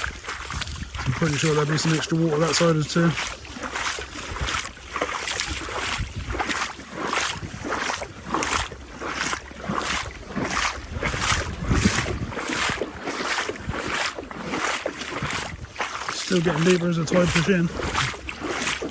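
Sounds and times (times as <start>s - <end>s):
footsteps splashing through water: 0.0s - 18.9s
wind buffeting microphone: 0.0s - 18.9s.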